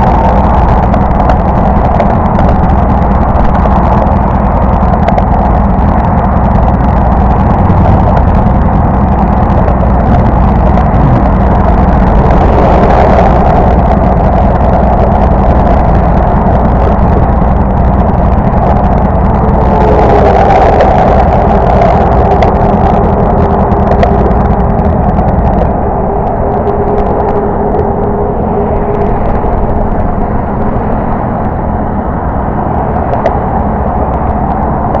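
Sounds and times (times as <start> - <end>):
faint steady tone: 0.0 - 34.9
motorcycle engine running: 0.0 - 35.0
rushing noise: 0.0 - 35.0.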